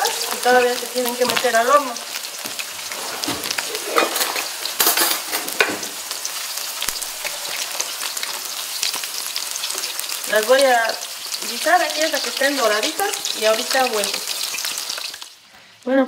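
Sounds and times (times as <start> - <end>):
metal spatula in pan: 0.0 - 15.3
chicken sizzling in hot oil: 0.0 - 15.9.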